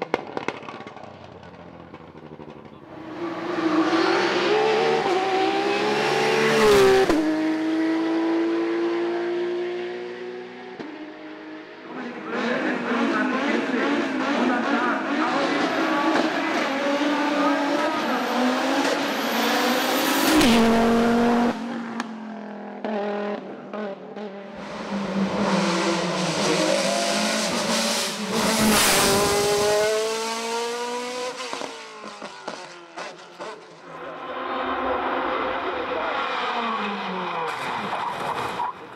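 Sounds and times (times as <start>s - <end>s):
race car engine revving: 0.4s - 38.8s.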